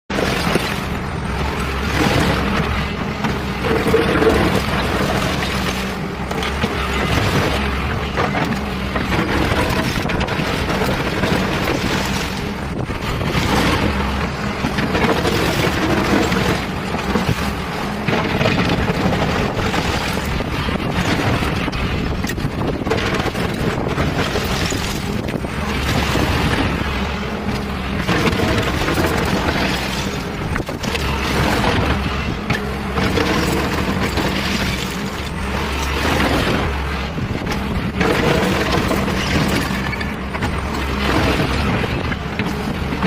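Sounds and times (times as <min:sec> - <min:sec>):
excavator diesel engine humming: 0:00.1 - 0:43.0
wind noise on microphone: 0:00.1 - 0:43.0.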